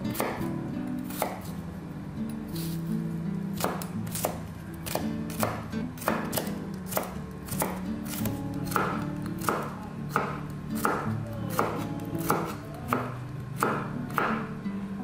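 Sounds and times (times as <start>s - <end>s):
background music: 0.0s - 15.0s
knife chopping on wooden board: 0.1s - 1.5s, 3.6s - 14.5s.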